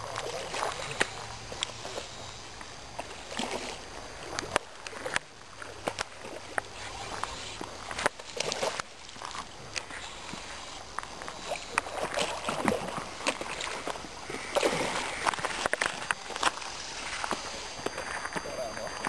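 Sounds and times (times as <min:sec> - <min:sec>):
fish splashing in water: 0:00.0 - 0:19.0.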